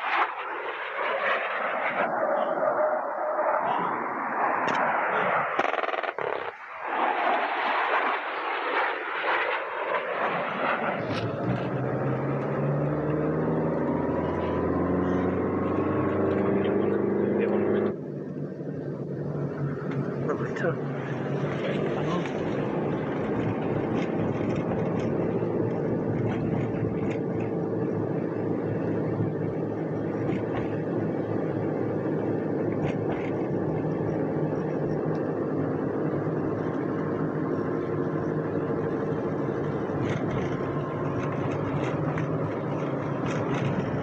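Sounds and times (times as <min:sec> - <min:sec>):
car engine and road noise: 0:00.0 - 0:09.4, 0:10.8 - 0:44.0.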